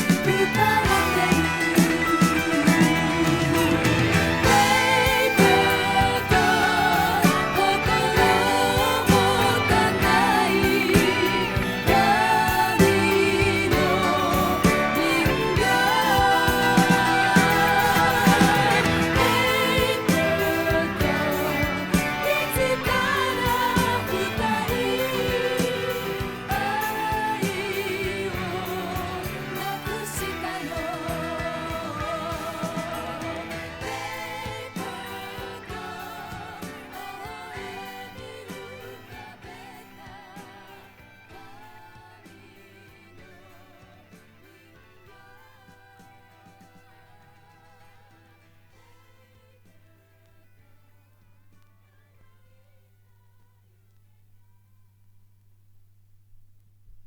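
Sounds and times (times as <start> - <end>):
pop song with vibrato vocals: 0.0 - 50.6.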